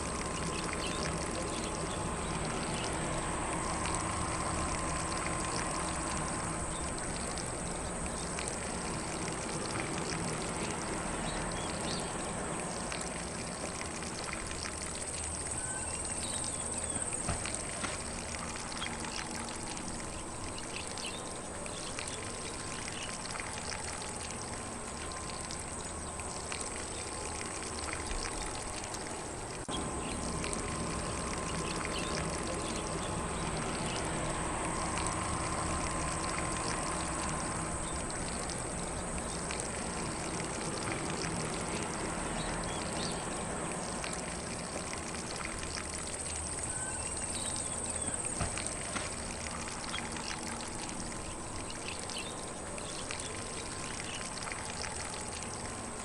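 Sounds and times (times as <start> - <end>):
lawn sprinkler spraying water: 0.0 - 56.0.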